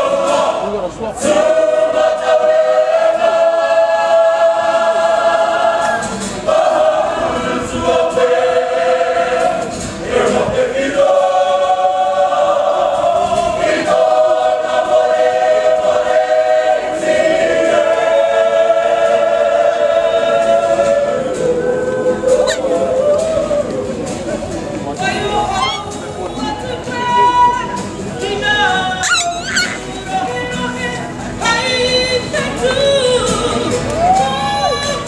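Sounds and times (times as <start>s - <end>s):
group of men and women singing: 0.0s - 24.3s, 24.9s - 35.0s.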